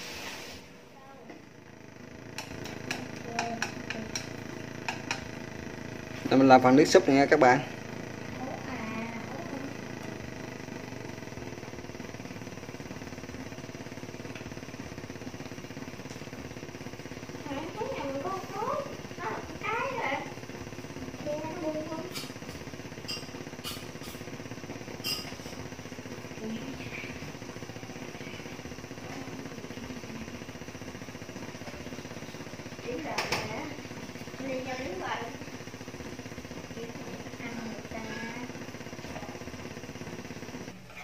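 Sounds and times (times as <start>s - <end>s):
gas burner hiss: 0.0s - 41.0s
sauce simmering rattling drone: 1.3s - 41.0s.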